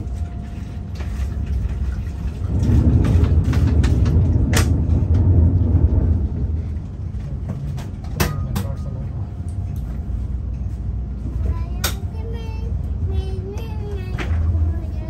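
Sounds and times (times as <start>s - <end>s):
train rumbling over tracks: 0.0s - 15.0s.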